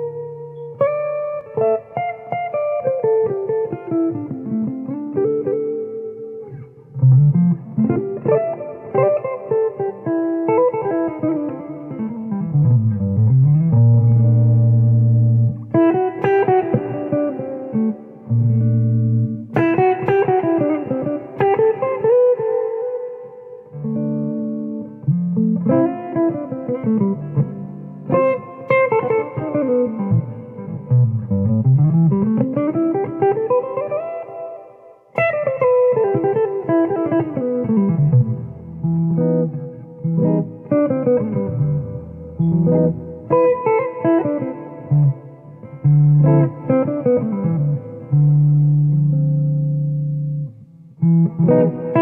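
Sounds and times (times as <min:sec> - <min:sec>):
solo electric guitar: 0:00.0 - 0:52.0.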